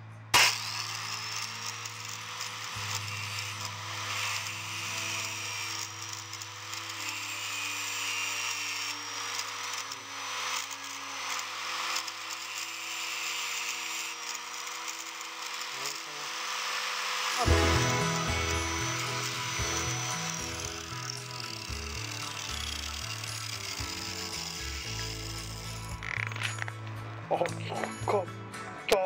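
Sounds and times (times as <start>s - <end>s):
angle grinder grinding metal: 0.4s - 26.9s.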